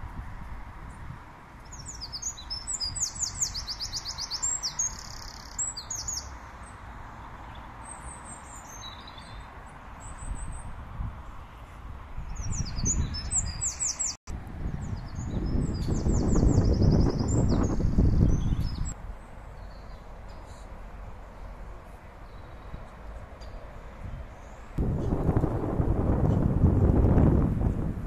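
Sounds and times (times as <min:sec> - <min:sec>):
songbird singing: 0:00.8 - 0:26.5.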